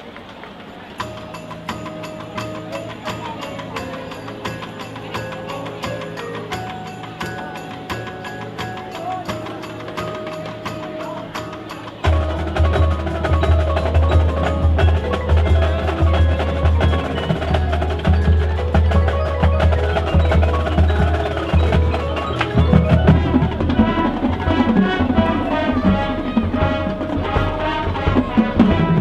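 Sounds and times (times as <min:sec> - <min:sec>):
mallet percussion notes: 0:00.8 - 0:29.0
sharp percussion knocks: 0:01.0 - 0:29.0.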